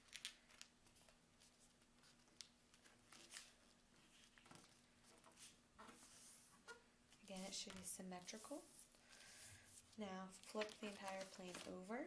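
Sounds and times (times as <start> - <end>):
paper being folded and creased: 0.0 - 8.8, 10.4 - 11.9.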